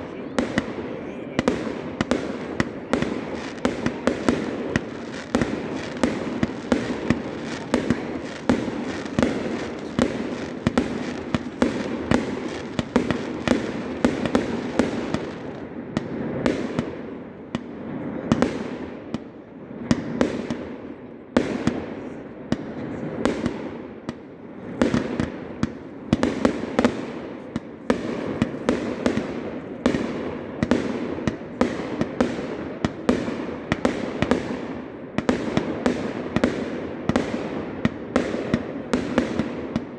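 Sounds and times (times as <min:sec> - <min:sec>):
fireworks banging: 0:00.0 - 0:39.9.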